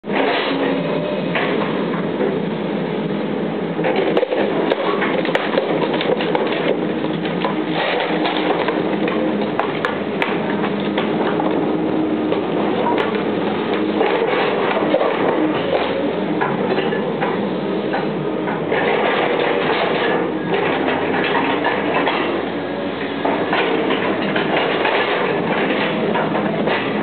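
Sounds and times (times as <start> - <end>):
excavator running: 0.0 - 27.0.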